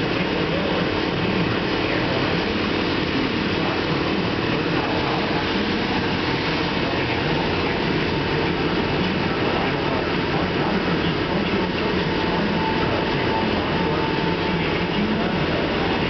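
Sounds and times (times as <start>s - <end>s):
machine rumble and hiss: 0.0s - 16.0s.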